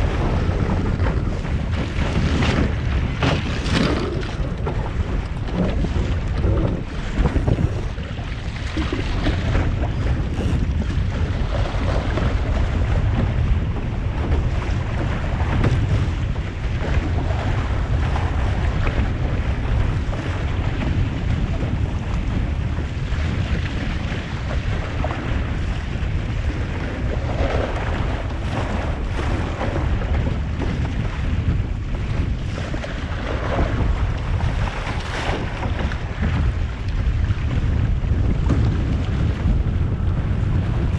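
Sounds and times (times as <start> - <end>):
water rushing along hull: 0.0 - 40.9
wind buffeting microphone: 0.0 - 40.9.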